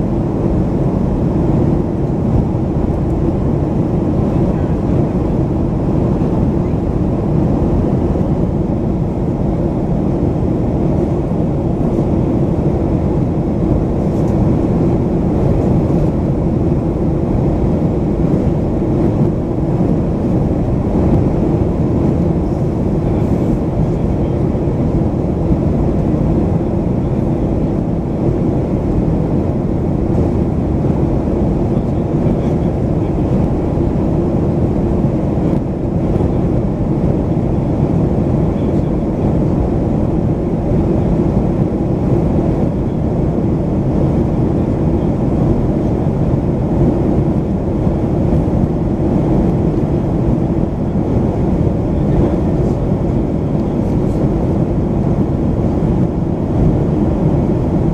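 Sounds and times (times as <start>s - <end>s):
jet engine hum: 0.0s - 57.9s.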